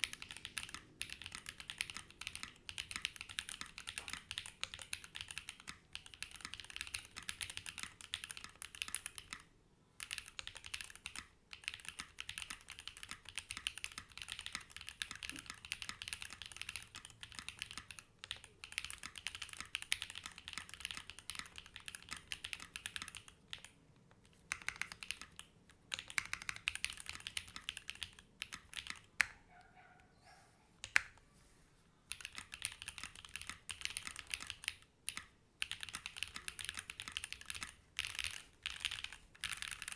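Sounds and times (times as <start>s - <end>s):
mechanical keyboard typing: 0.0s - 29.4s, 32.1s - 39.9s.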